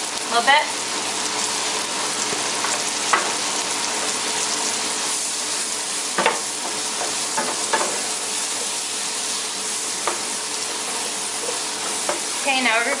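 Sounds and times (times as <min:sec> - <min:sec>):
mushrooms sizzling in a frying pan: 0:00.0 - 0:13.0.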